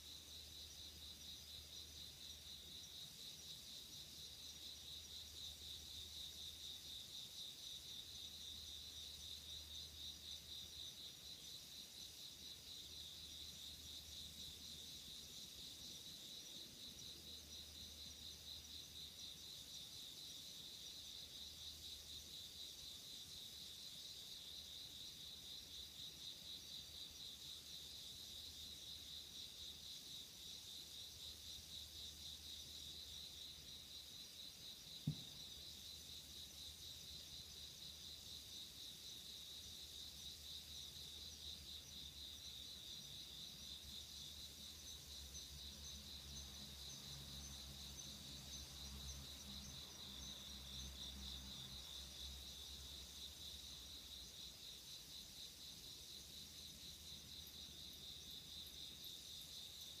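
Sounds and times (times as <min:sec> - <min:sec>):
crickets trilling: 0:00.0 - 1:00.0.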